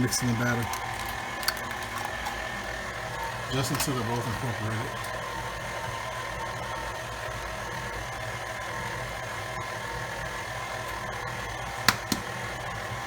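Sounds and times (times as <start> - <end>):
electric stand mixer humming: 0.0 - 13.0.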